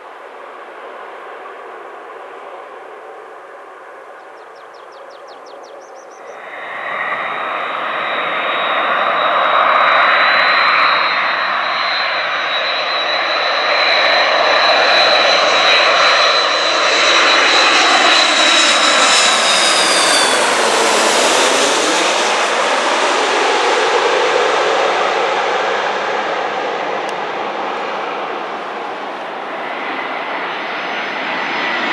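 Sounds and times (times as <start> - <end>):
jet airliner flying overhead: 0.0 - 31.9.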